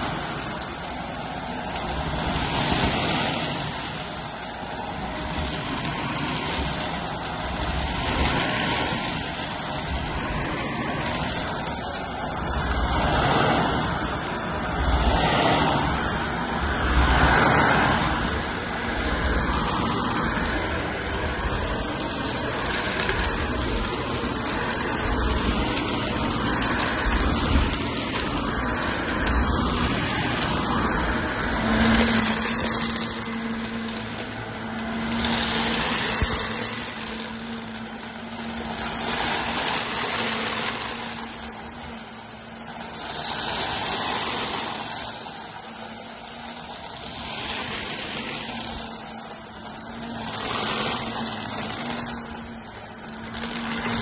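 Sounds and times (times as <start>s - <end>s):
vacuum cleaner motor hum: 0.0s - 54.0s
vacuum crunching debris: 0.0s - 54.0s.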